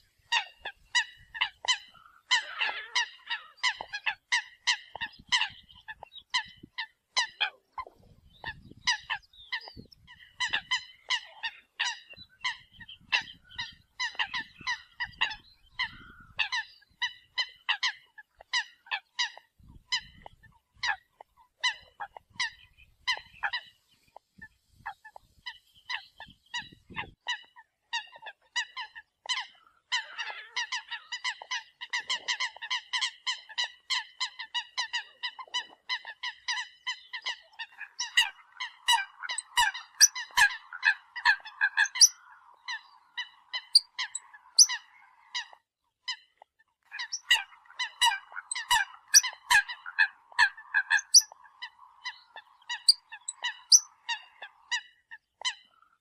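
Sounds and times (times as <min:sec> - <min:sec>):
coots calling: 0:00.0 - 0:56.0.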